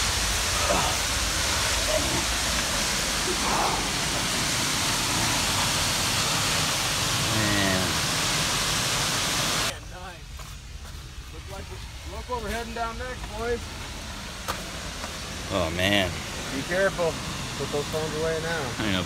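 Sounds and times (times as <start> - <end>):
waterfall rushing into pool: 0.0 - 10.2, 11.3 - 19.0.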